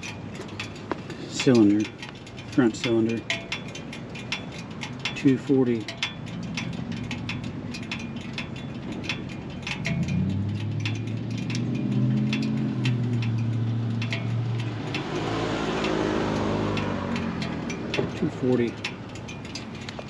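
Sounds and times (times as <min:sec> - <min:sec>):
hot engine ticking: 0:00.0 - 0:20.0.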